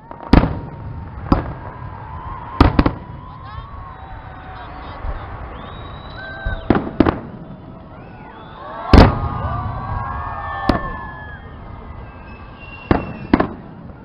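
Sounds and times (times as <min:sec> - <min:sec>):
fireworks bangs: 0:00.0 - 0:14.0
fireworks whistles: 0:00.0 - 0:14.0.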